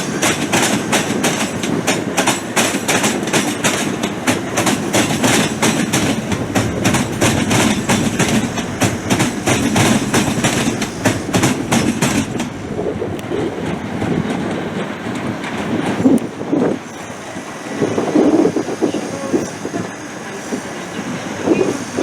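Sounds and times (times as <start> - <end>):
train rumble: 0.0 - 22.0
train wheels clicking over rails: 0.0 - 22.0.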